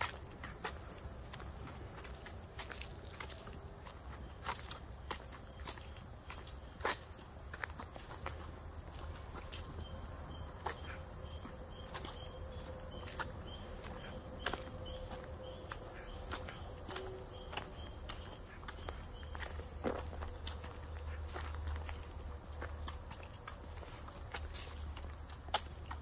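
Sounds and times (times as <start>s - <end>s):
footsteps on a trail: 0.0s - 26.0s
insect chirping: 0.0s - 26.0s.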